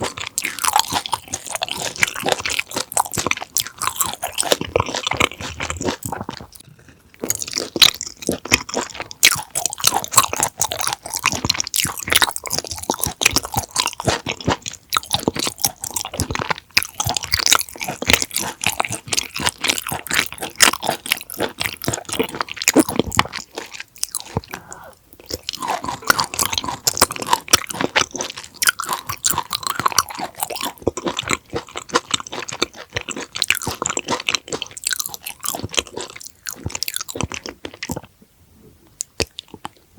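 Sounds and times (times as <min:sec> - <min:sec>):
wet crunchy chewing: 0:00.0 - 0:38.2, 0:38.8 - 0:39.9.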